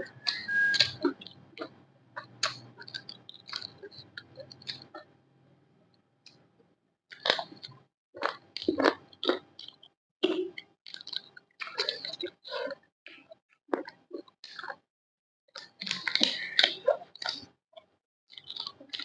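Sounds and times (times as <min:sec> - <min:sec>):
chewing crisp food: 0:00.1 - 0:05.1, 0:07.1 - 0:14.8, 0:15.6 - 0:19.0.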